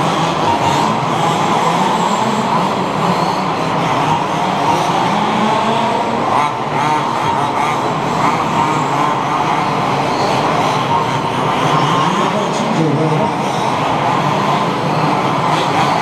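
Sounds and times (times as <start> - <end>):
rc buggy engines buzzing: 0.0 - 16.0.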